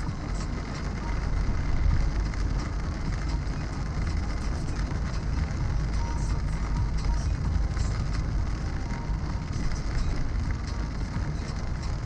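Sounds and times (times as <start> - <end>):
car engine and road rumble: 0.0 - 12.0
tyres hissing on wet road: 0.0 - 12.0.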